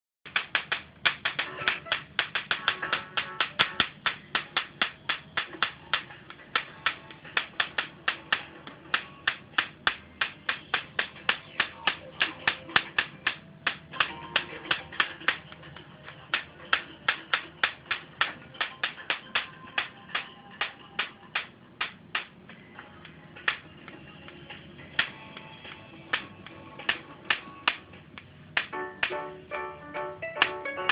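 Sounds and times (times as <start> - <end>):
faint television programme sound: 1.3 - 29.4.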